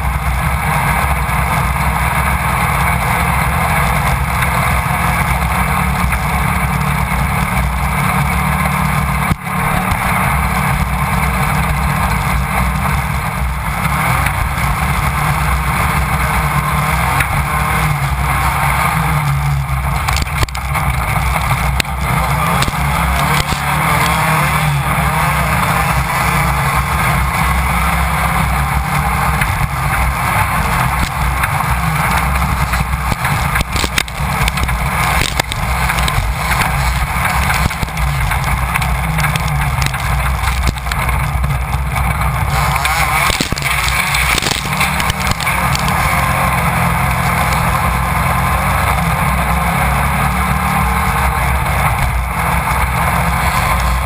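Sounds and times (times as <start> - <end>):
buggy engine at high revs: 0.0 - 54.0
chassis rattling: 0.0 - 54.0.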